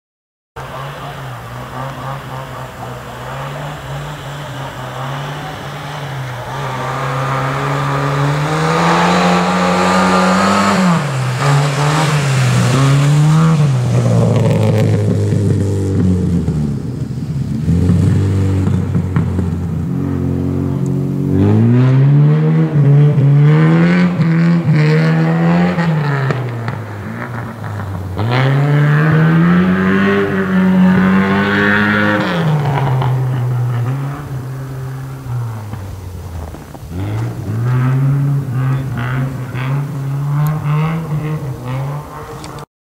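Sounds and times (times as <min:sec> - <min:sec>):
car engine revving: 0:00.6 - 0:42.7.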